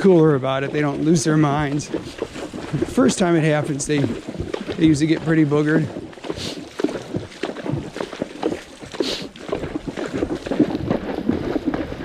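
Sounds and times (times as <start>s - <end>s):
hooves splashing through water: 0.0s - 12.0s
wind buffeting microphone: 0.0s - 12.0s.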